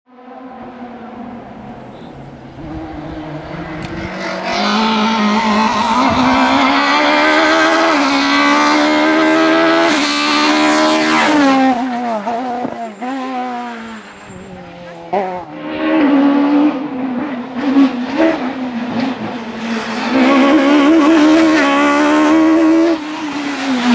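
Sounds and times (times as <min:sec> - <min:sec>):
rally car engine passing by: 0:00.2 - 0:23.9.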